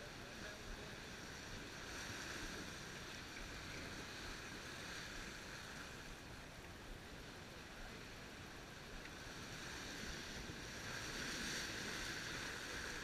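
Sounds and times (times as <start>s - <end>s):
water rushing along a hull: 0.0s - 13.0s.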